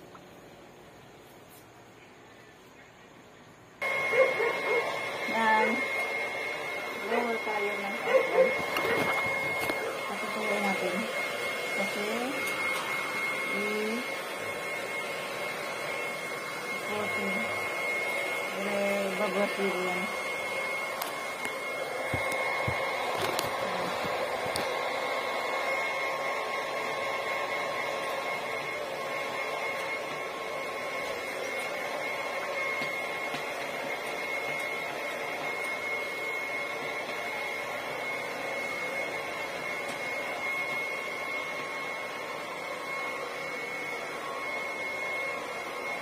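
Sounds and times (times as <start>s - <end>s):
hair dryer running: 3.8s - 46.0s.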